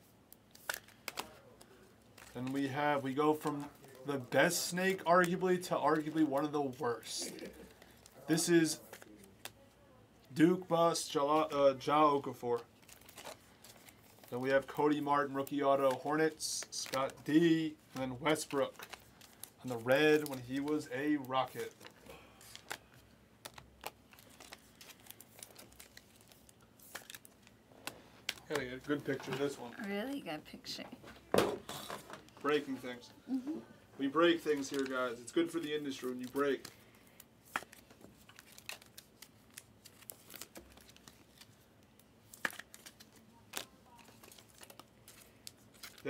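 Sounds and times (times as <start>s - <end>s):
trading cards clicking and rustling: 0.4s - 9.6s, 11.2s - 29.7s, 34.1s - 46.0s.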